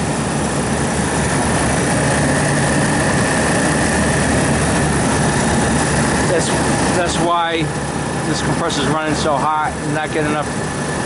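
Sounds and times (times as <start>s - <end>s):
refrigeration unit hum and rush: 0.0s - 11.0s.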